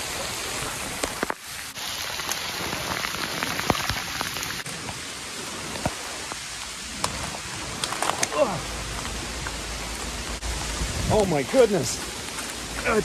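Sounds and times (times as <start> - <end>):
heavy rain on foliage: 0.0 - 13.0.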